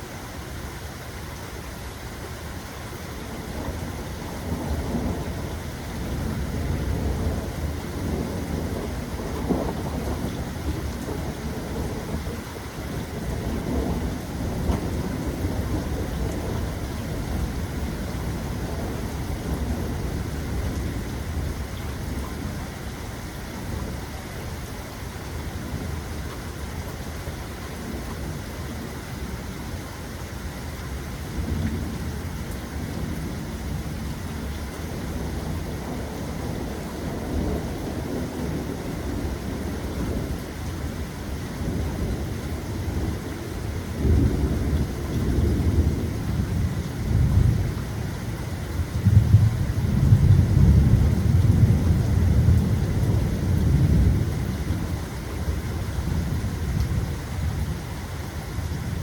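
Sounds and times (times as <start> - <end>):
steady rain: 0.0 - 59.0
rolling thunder: 3.3 - 24.2, 31.2 - 59.0.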